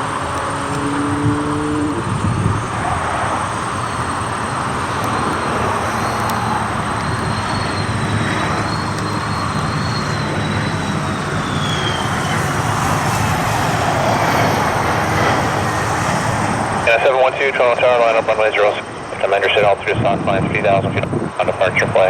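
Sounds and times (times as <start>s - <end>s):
jet engine rushing with whine: 0.0s - 22.0s.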